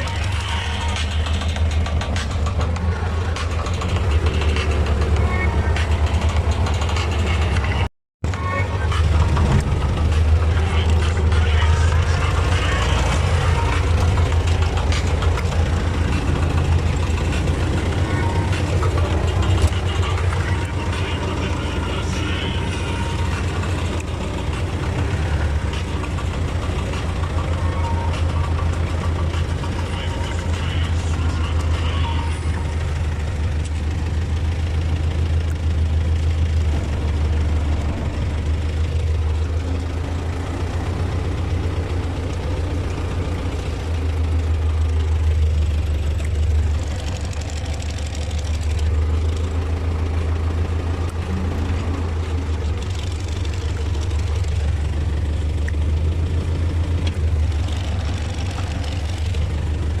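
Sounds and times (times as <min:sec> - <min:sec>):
tractor diesel engine droning: 0:00.0 - 1:00.0.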